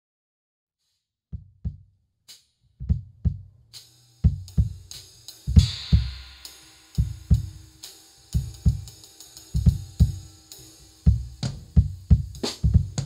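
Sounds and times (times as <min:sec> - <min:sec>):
bass drum pattern: 0:01.4 - 0:01.9, 0:02.8 - 0:13.0
cymbal and hi-hat strokes: 0:02.3 - 0:13.0.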